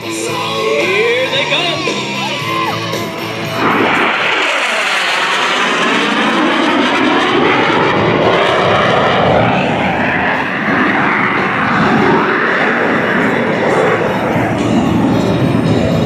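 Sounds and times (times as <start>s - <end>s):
jet roar flying past: 0.0s - 16.0s.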